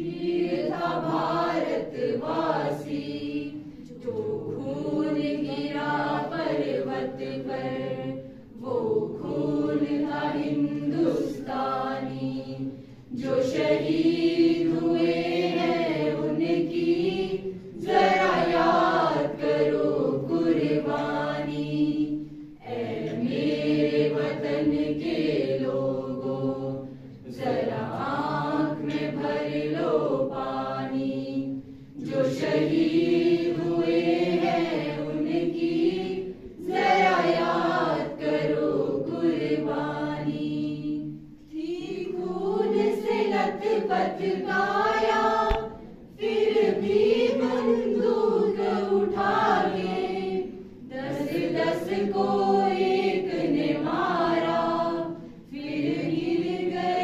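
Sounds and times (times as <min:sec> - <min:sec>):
group singing unaccompanied: 0:00.0 - 0:57.0.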